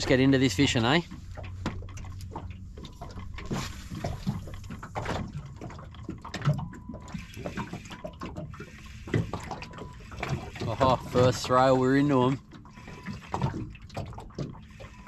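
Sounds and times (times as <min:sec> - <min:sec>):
waves lapping against boat: 0:00.0 - 0:15.0.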